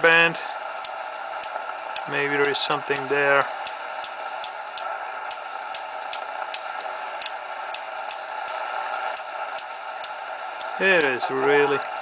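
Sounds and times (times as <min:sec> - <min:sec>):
radio receiver hiss: 0:00.0 - 0:12.0
sharp clicks: 0:00.8 - 0:11.2.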